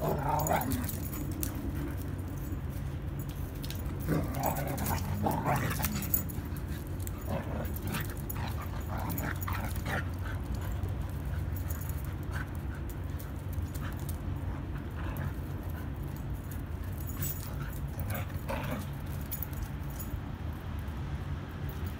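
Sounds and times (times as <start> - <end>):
dogs playing vocalizing: 0.0 - 20.1
low background hum: 0.0 - 21.9.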